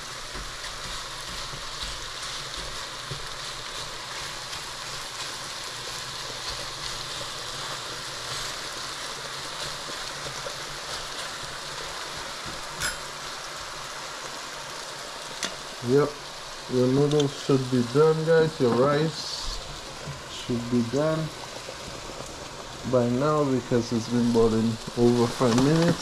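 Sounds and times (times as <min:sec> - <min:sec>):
beef sizzling in hot oil: 0:00.0 - 0:26.0.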